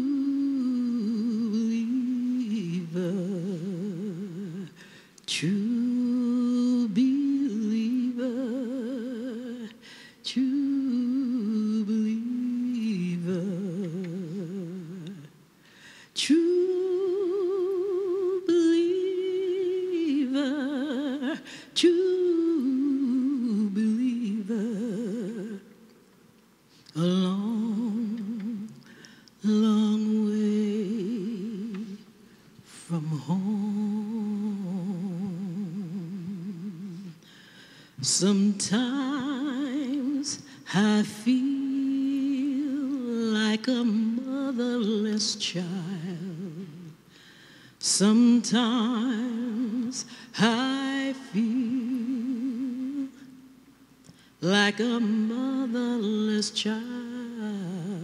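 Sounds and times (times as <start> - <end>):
woman singing a spiritual: 0.0 - 15.4, 16.0 - 25.9, 26.9 - 37.3, 38.0 - 47.1, 47.8 - 53.5, 54.3 - 58.0.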